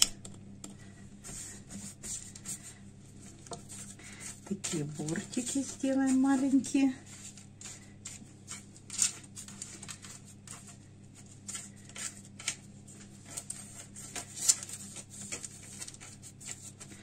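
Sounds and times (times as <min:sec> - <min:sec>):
steady low hum: 0:00.0 - 0:17.0
parchment paper rustling: 0:00.8 - 0:17.0.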